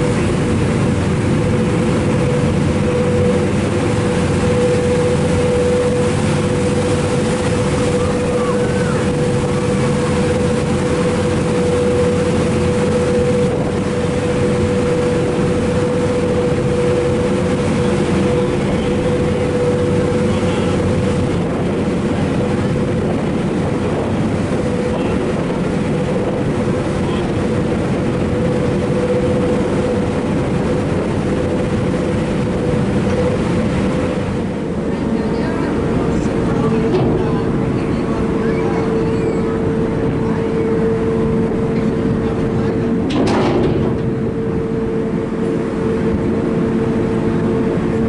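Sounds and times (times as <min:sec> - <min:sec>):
ferry machinery rumbling: 0:00.0 - 0:48.0
propellers churning water: 0:00.0 - 0:48.0
ship engines droning with whine: 0:00.0 - 0:48.0.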